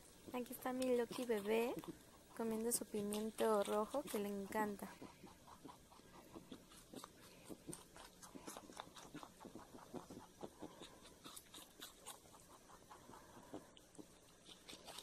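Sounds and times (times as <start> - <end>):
rabbit chewing and crunching: 0.0 - 15.0.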